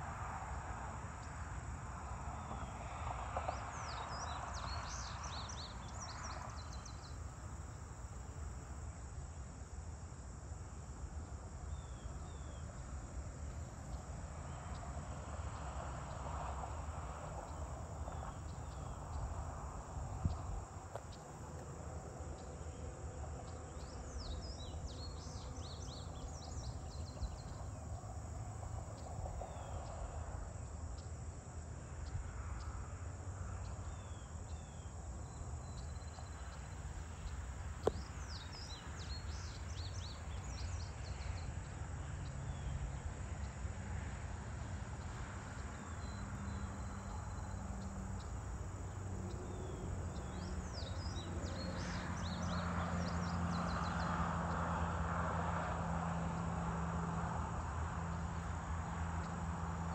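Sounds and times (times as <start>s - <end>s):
insect chorus: 0.0s - 59.9s.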